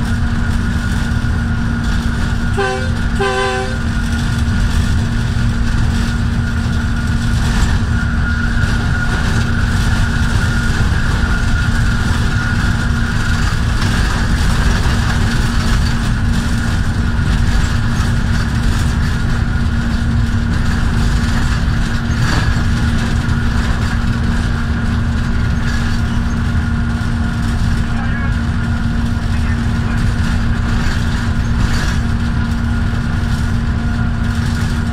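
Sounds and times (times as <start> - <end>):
locomotive engine drone: 0.0 - 34.9.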